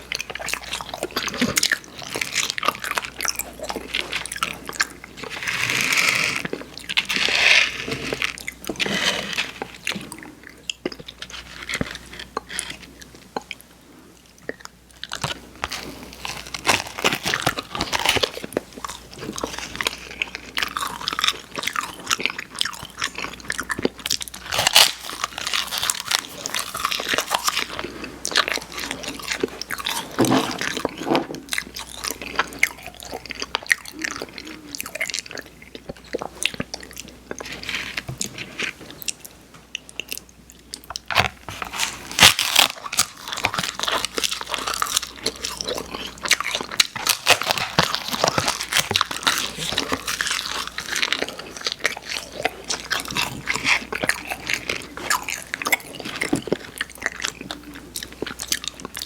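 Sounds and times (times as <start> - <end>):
person chewing crunchy candy: 0.0 - 59.0.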